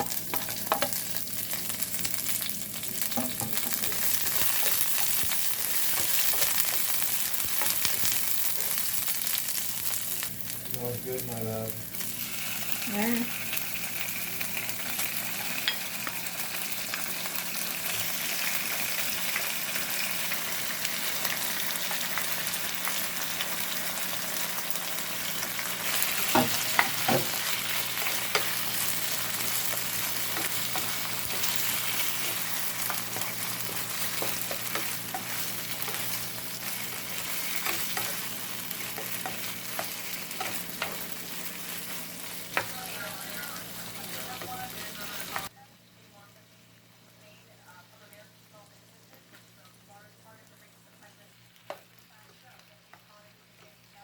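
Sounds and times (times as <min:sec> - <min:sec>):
food sizzling in a hot pan: 0:00.0 - 0:45.6, 0:46.5 - 0:54.0.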